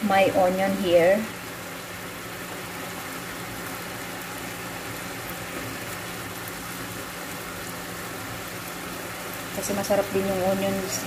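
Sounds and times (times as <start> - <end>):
meat sizzling in a frying pan: 0.1 - 11.0.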